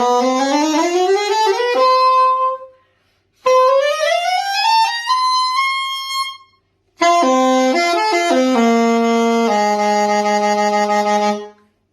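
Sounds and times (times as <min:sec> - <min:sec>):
soprano saxophone playing: 0:00.0 - 0:11.8.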